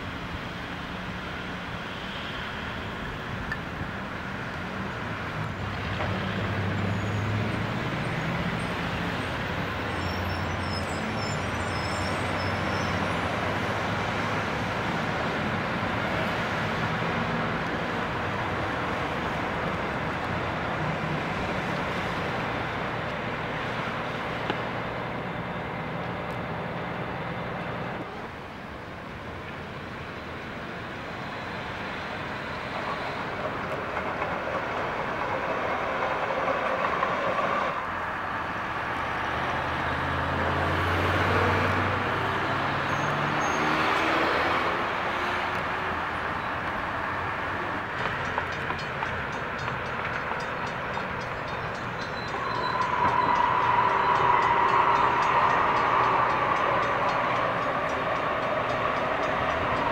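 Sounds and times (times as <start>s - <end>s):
light rail train running: 0.0s - 59.9s
road traffic passing: 0.0s - 59.9s.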